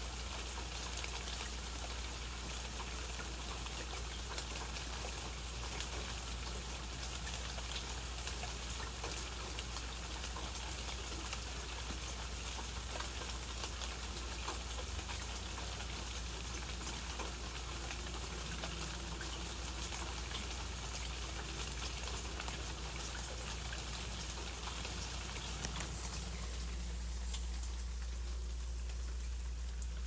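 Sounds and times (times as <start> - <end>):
rain falling: 0.0 - 30.0
raindrops ticking: 0.1 - 30.0.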